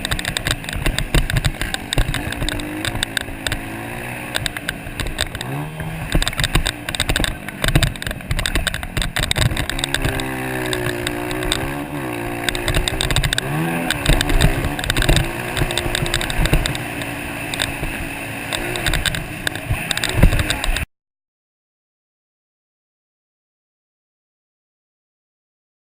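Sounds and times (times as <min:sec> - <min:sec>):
motorcycle engines revving: 0:00.0 - 0:20.9
sharp crackles: 0:00.0 - 0:20.9.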